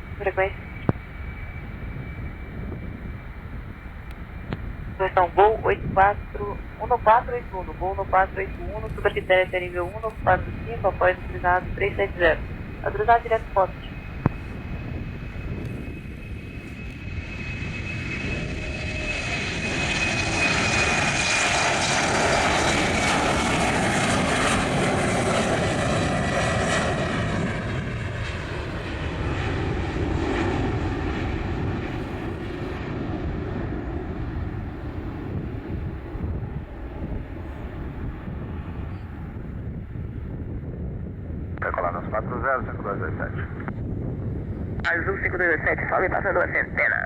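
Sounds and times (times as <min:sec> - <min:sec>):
high jet whine: 0:00.0 - 0:47.0
jet taking off: 0:00.0 - 0:47.0.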